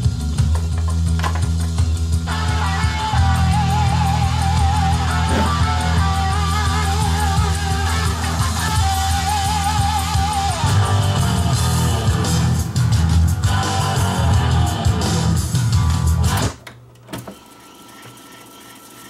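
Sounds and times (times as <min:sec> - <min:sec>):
guitar rock music from tape: 0:00.0 - 0:16.6.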